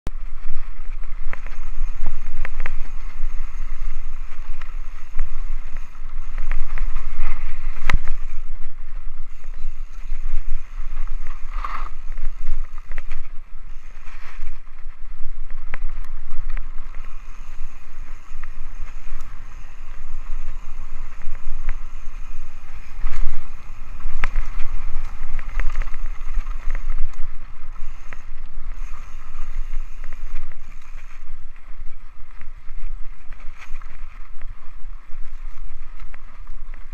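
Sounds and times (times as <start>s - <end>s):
bike knocking and rattling: 0.1s - 36.9s
wind buffeting microphone: 0.1s - 36.9s.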